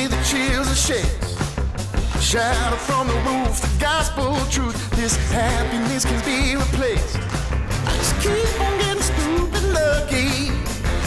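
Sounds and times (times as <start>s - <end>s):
pop music with steady beat: 0.0s - 11.0s.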